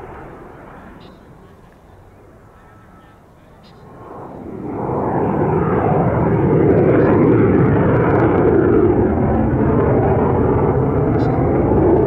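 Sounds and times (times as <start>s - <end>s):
fighter jet roar: 0.0s - 12.0s.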